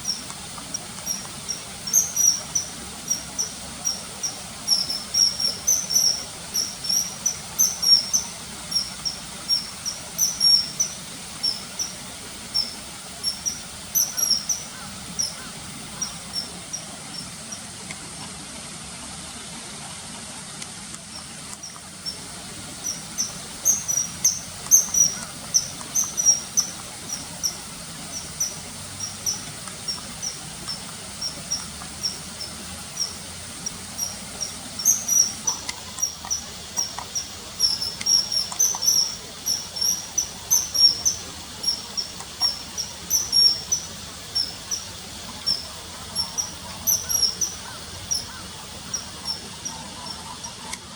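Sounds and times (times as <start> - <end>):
kingfisher peeping: 0.0 - 17.8, 21.1 - 50.9.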